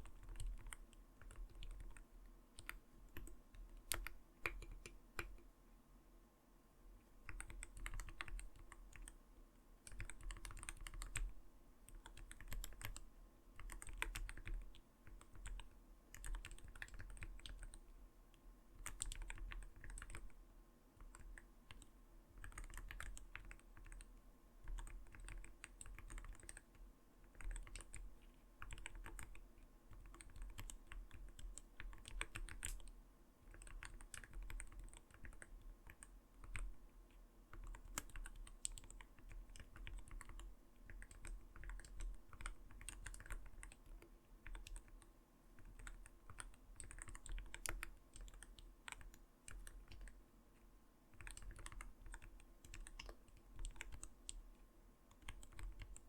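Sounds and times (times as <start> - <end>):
mechanical keyboard typing: 0.0 - 2.0, 2.6 - 5.4, 7.3 - 9.2, 9.9 - 11.3, 11.9 - 17.8, 18.8 - 20.3, 21.0 - 24.1, 24.7 - 36.7, 37.5 - 50.2, 51.1 - 54.4, 55.1 - 56.0.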